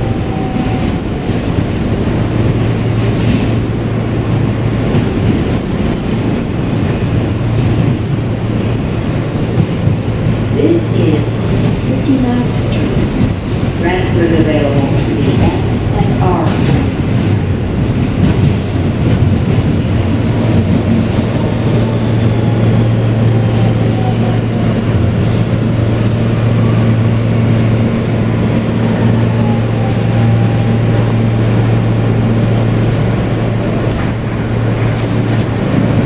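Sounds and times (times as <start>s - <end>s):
wheel-on-rail rumble: 0.0s - 36.0s.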